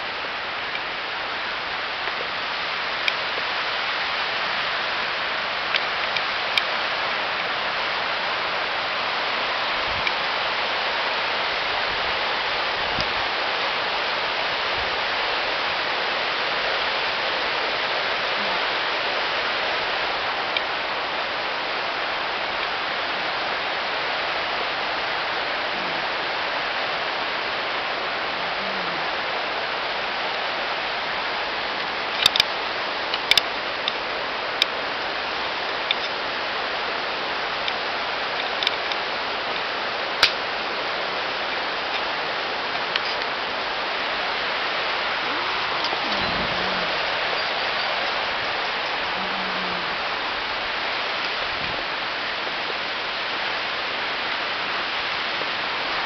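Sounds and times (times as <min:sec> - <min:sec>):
steady rushing hiss: 0:00.0 - 0:56.0.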